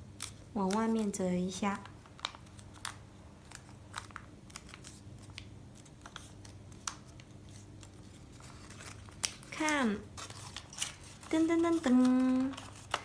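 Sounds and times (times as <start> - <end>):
paper being folded and creased: 0.2 - 13.0.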